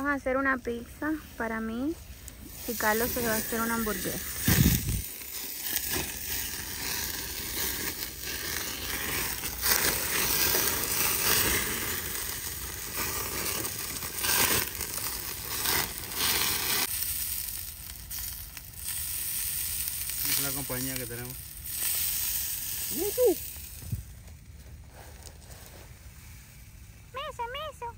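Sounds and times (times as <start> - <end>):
fire crackling: 0.0 - 27.9
patty sizzling on grill: 0.4 - 27.9.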